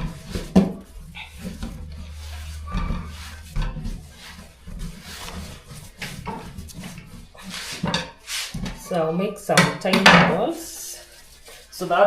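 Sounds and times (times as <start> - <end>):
hands kneading dough on wood: 0.0 - 9.0, 9.7 - 12.0.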